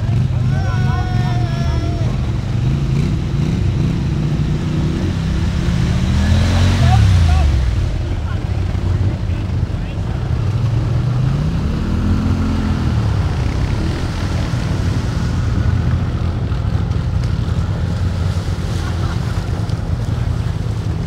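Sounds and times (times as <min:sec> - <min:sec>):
quad bike engine running: 0:00.0 - 0:21.0
wheels churning water: 0:00.0 - 0:21.0.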